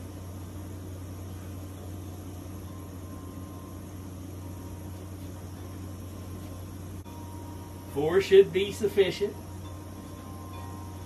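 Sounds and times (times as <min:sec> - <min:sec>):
gas burners hissing: 0:00.0 - 0:11.0.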